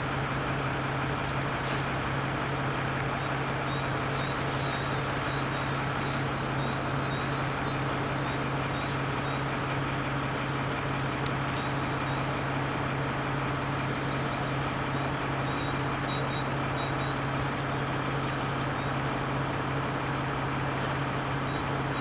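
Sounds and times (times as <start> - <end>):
fire engine motor humming: 0.0 - 22.0.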